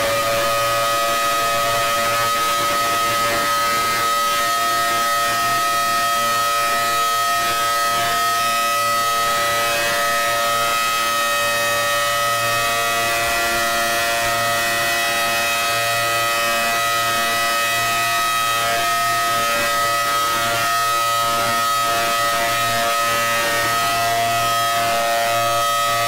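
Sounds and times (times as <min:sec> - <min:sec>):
emergency alarm siren: 0:00.0 - 0:26.0.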